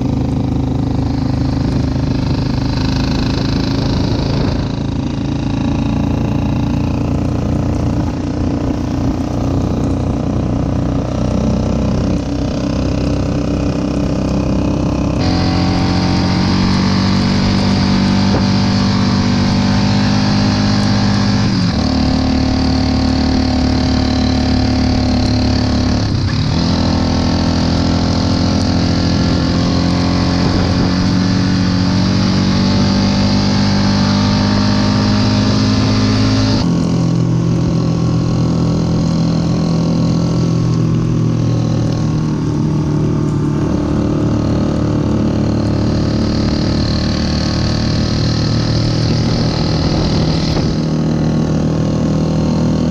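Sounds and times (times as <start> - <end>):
quad bike engine droning: 0.0 - 52.9.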